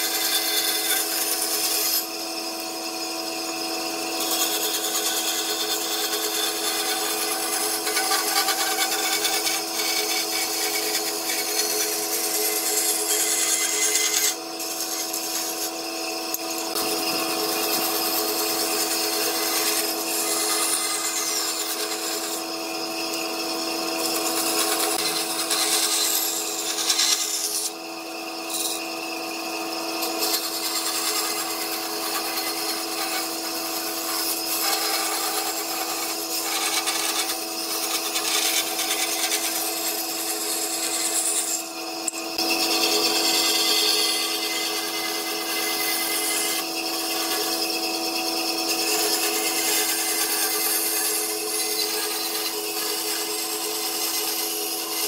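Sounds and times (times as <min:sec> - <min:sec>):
bandsaw motor hum: 0:00.0 - 0:55.0
saw cutting wood: 0:00.0 - 0:55.0.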